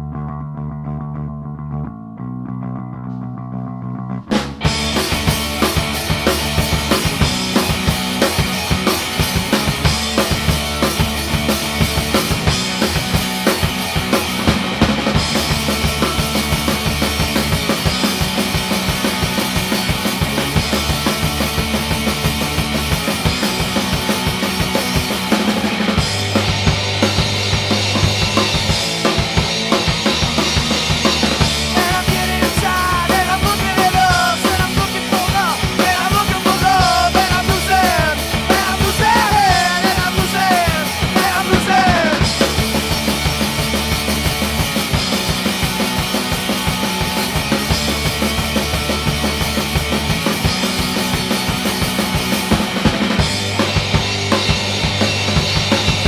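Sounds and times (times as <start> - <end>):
bass and guitar: 0.0 - 56.0
drum kit beat: 4.3 - 56.0.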